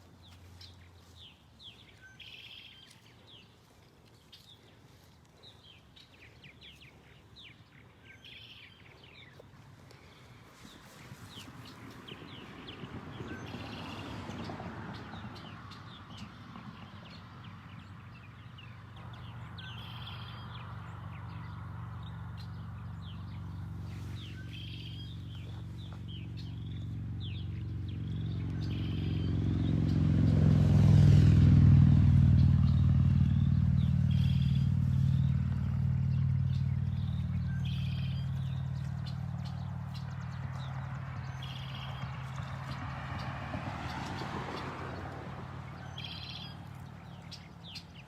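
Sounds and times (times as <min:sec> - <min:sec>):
birds chirping: 0:00.0 - 0:48.0
vehicle engine passing by: 0:04.2 - 0:48.0.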